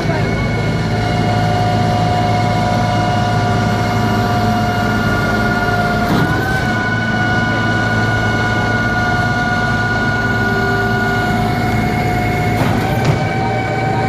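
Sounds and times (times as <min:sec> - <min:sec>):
high steady whine: 0:00.0 - 0:14.0
truck engine running under load: 0:00.0 - 0:14.0.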